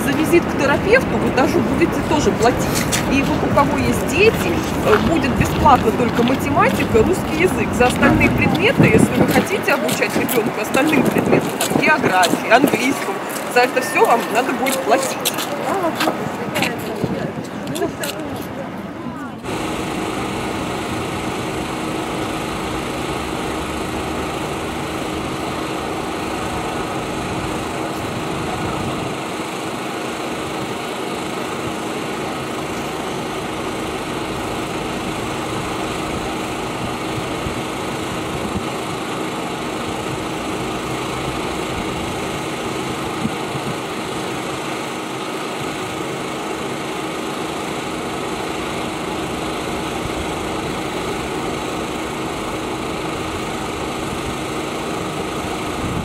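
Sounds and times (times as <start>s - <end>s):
small engine running: 0.0s - 16.8s, 19.4s - 56.0s.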